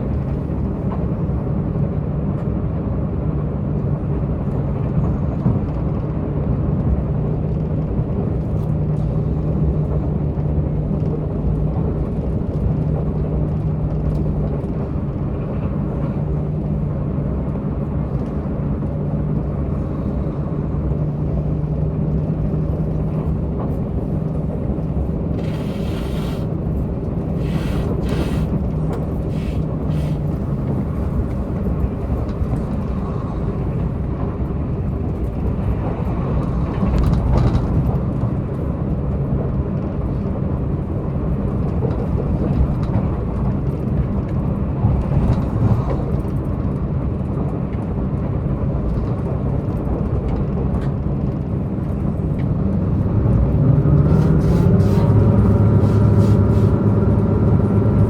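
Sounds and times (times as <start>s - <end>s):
diesel engine hum: 0.0s - 58.0s
train wheels rumbling: 4.4s - 58.0s.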